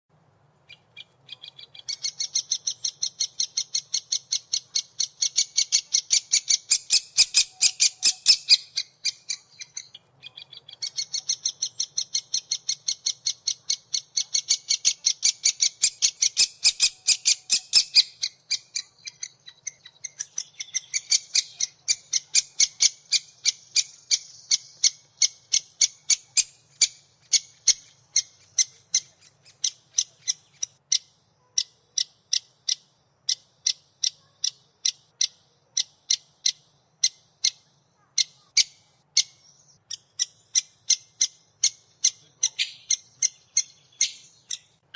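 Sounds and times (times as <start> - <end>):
woodpecker nestlings chirping: 0.7 - 44.9.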